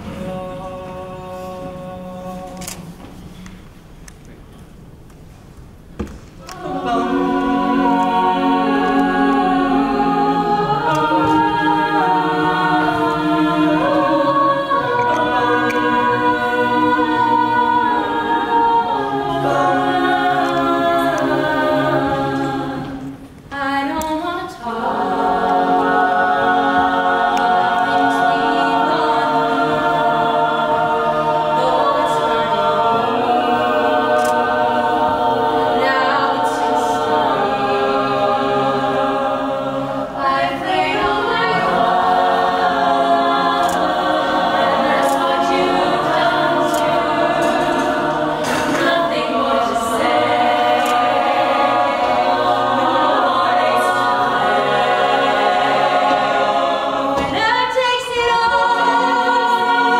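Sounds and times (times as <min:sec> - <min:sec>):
a cappella group singing in harmony: 0:00.0 - 0:03.9, 0:06.0 - 0:59.9.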